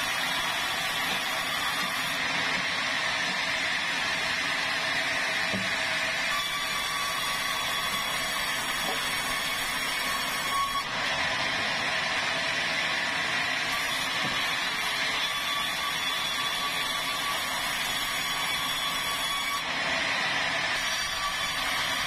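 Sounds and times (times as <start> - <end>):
band saw cutting wood: 0.0 - 22.0.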